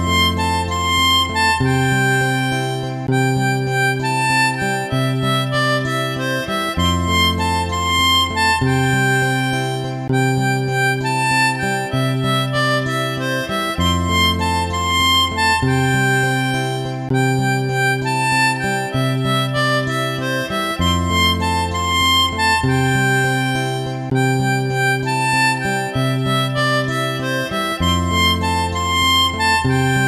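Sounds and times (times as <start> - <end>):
harmonica-like melody: 0.0 - 30.0
steady bass: 0.0 - 30.0.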